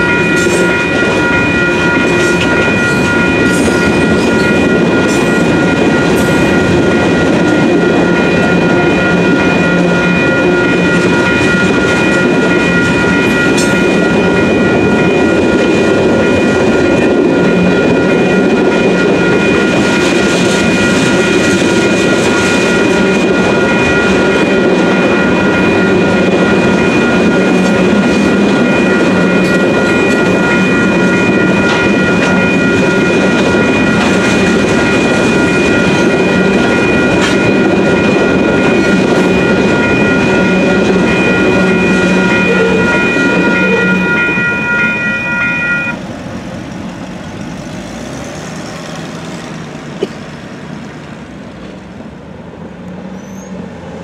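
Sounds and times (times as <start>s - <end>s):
crossing bells ringing: 0.0s - 54.0s
freight train rumble: 0.0s - 54.0s.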